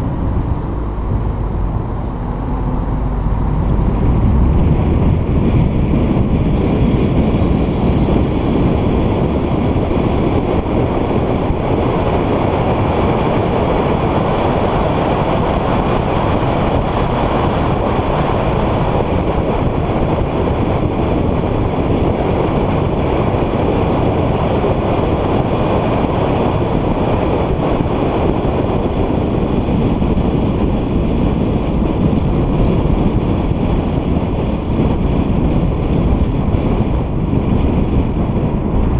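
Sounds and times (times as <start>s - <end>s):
car interior road and engine noise: 0.0s - 38.9s.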